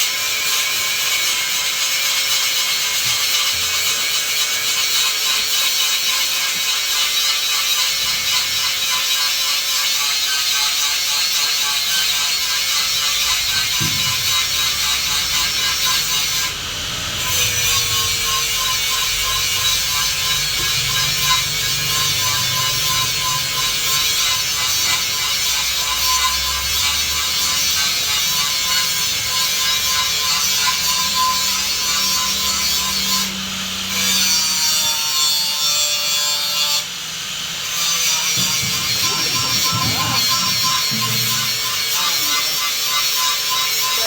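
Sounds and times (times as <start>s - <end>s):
tool rasping on workpiece: 1.8s - 16.6s, 17.2s - 33.4s, 37.8s - 44.0s.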